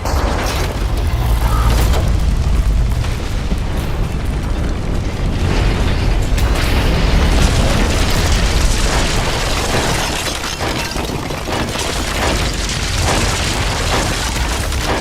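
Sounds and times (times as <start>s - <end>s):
booming crashes: 0.0s - 15.0s
loud continuous rumble: 0.0s - 15.0s.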